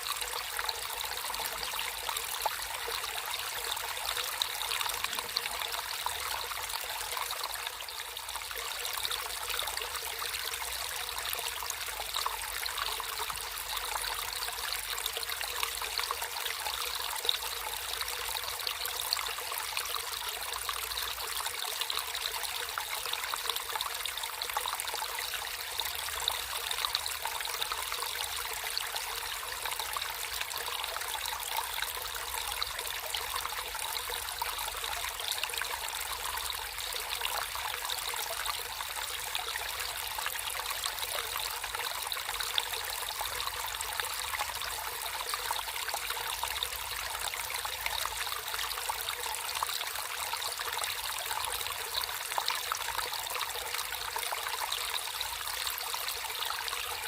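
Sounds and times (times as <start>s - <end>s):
small stream babbling: 0.0s - 57.0s.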